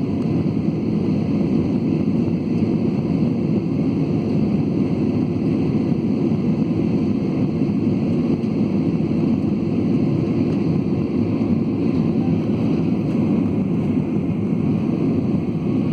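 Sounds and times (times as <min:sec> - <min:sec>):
airliner engine rumble: 0:00.0 - 0:15.9.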